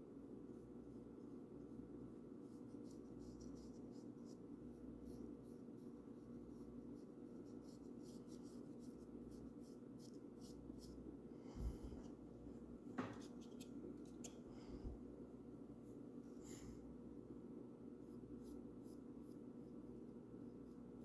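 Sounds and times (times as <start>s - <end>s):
steady low hum: 0.0s - 21.0s
paintbrush strokes: 0.4s - 17.0s, 17.8s - 21.0s.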